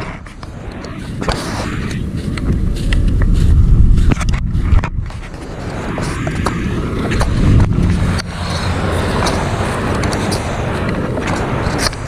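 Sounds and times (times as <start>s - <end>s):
handling clicks and rustles: 0.0s - 12.0s
wind rumbling on microphone: 0.0s - 12.0s
footsteps in grass: 0.2s - 11.0s.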